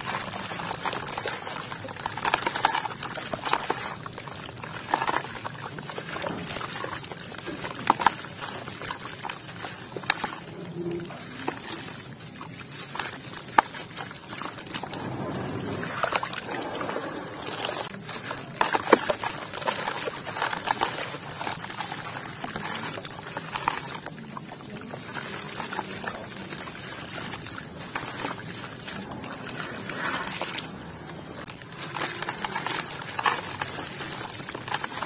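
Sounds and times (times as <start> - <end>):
dirt crumbs dropping into water: 0.0 - 35.0
wet mud squelching: 0.0 - 35.0.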